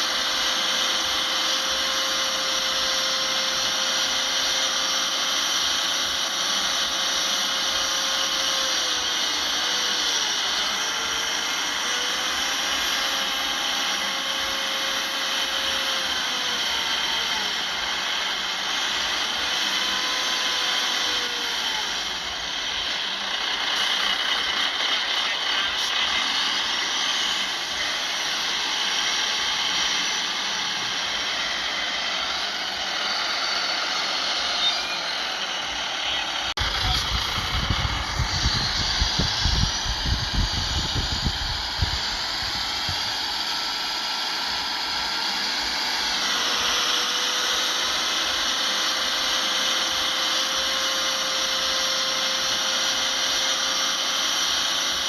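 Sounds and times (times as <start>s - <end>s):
heavy machinery engines whining: 0.0s - 55.0s.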